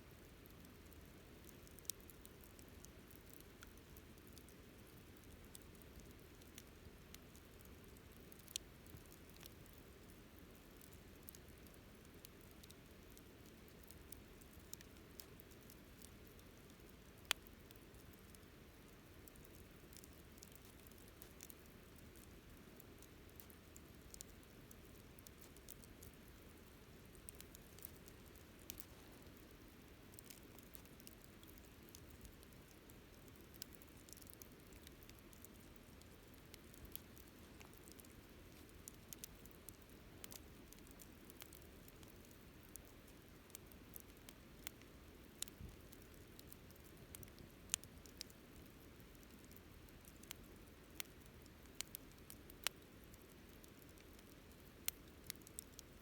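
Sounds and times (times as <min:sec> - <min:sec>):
campfire crackling: 0:00.2 - 0:56.0.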